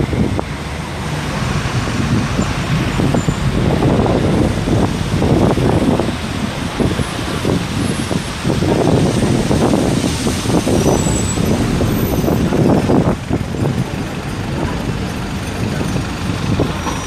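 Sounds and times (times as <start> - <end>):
heavy vehicles passing: 0.0 - 17.0
road traffic passing: 0.0 - 17.0.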